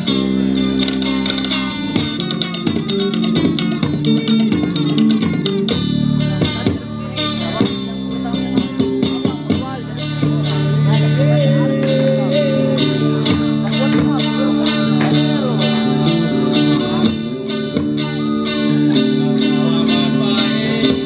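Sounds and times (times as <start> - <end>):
plucked string instrument: 0.0 - 21.0.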